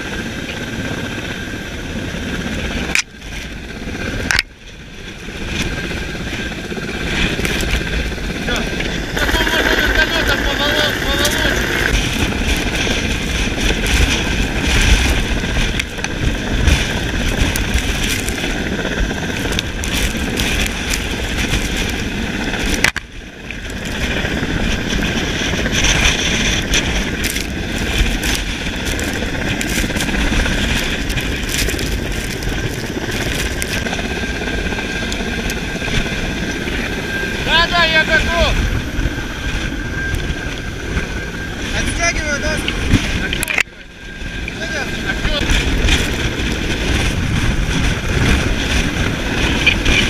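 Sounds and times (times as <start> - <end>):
helicopter rotor and engine: 0.0 - 50.0
wind buffeting microphone: 0.0 - 50.0.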